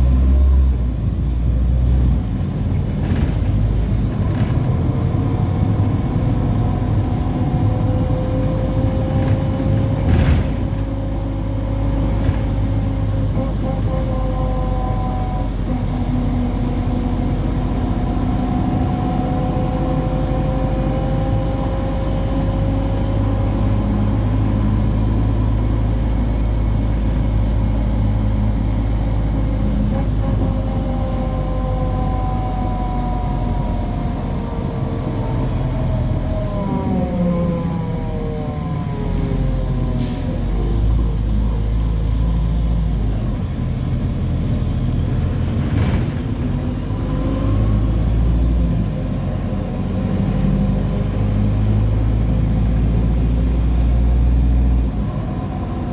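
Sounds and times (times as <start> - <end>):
bus engine and road noise: 0.0 - 55.9
bus whine: 0.0 - 55.9.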